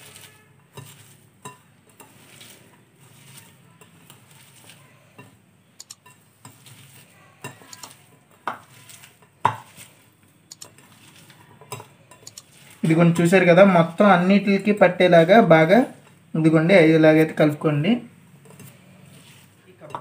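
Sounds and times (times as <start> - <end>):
rustling and squishing food: 0.0 - 20.0.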